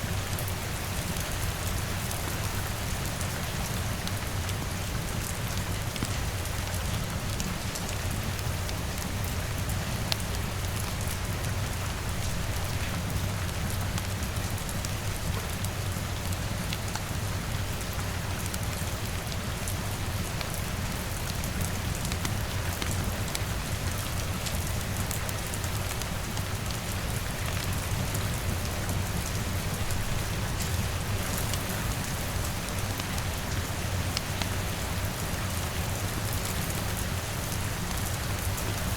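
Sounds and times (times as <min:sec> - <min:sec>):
faint fire crackles: 0:00.1 - 0:38.9.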